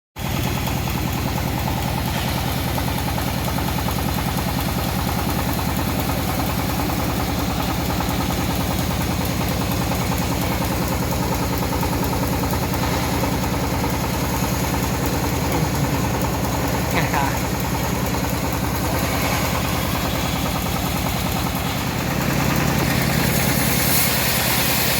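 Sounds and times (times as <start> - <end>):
sawmill engine running: 0.2 - 24.9.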